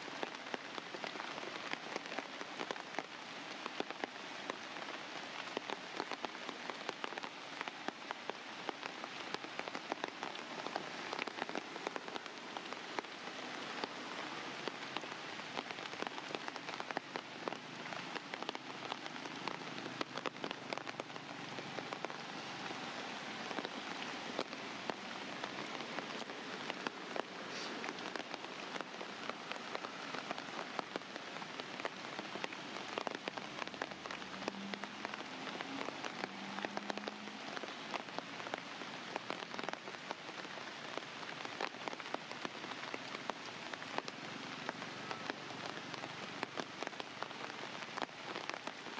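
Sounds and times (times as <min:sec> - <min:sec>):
raindrops ticking on a surface: 0:00.0 - 0:48.9
steady rain falling: 0:00.0 - 0:48.9.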